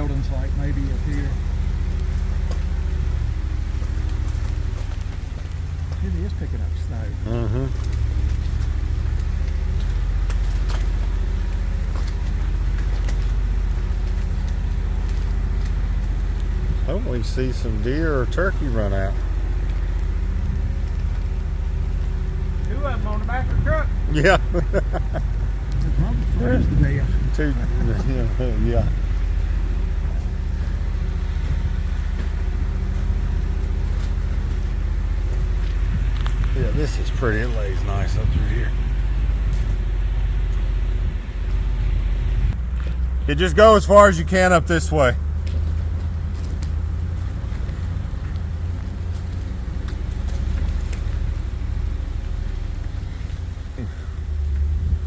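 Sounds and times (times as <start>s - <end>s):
truck engine droning: 0.0s - 55.0s.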